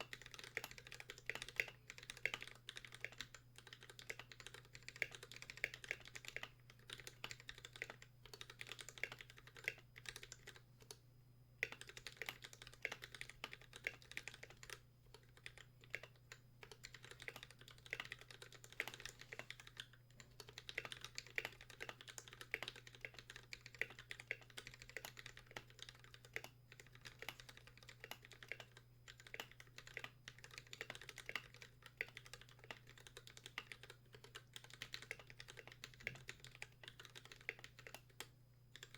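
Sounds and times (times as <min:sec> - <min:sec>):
mechanical keyboard typing: 0:00.0 - 0:11.0, 0:11.6 - 0:38.9.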